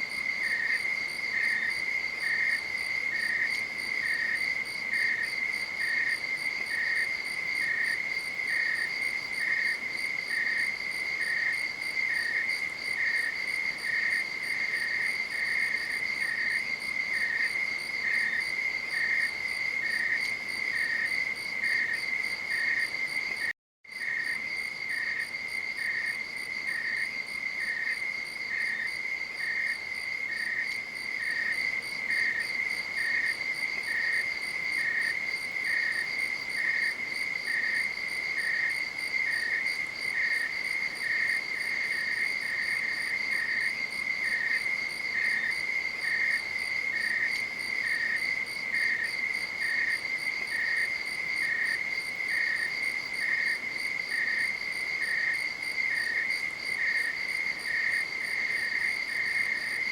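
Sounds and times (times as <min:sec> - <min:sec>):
lower cricket chirp: 0:00.0 - 0:59.9.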